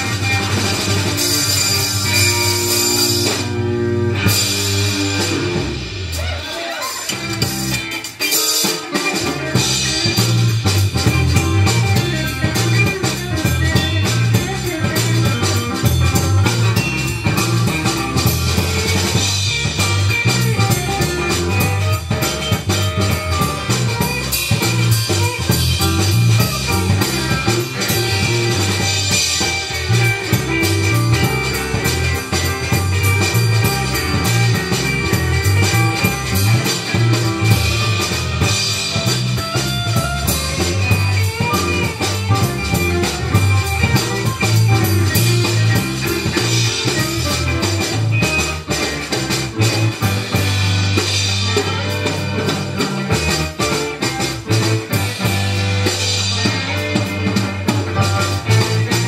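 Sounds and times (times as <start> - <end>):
electric guitar: 0.0 - 59.0
live rock band playing: 0.0 - 59.0.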